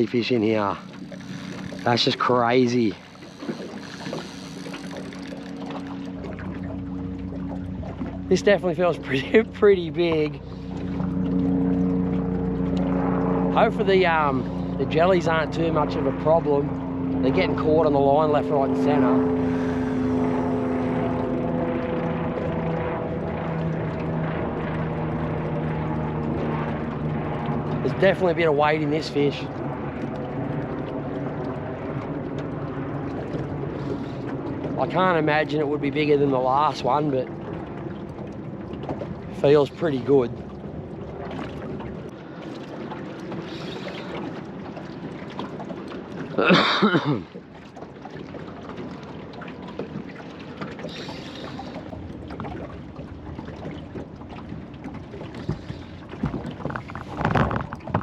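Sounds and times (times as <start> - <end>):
engine drone: 0.0 - 47.6, 49.1 - 58.0
water around a boat: 0.0 - 58.0
wind: 0.0 - 58.0.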